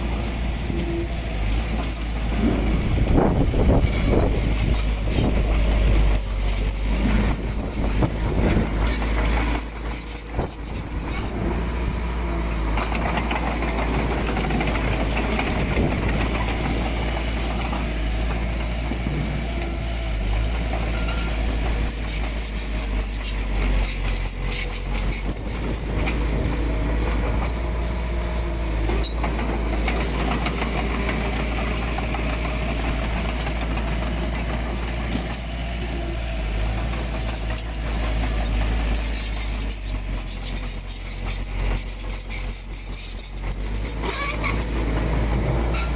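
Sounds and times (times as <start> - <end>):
bulldozer diesel engine droning: 0.0 - 45.9.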